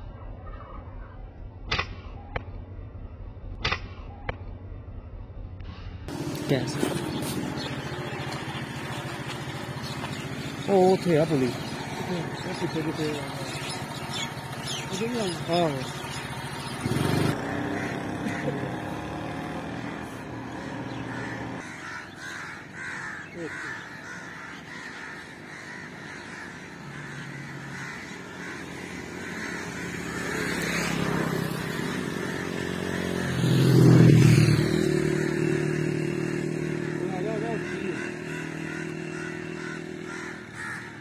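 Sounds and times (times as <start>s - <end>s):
motorcycle engine passing: 6.1s - 41.0s
crows cawing: 7.2s - 41.0s.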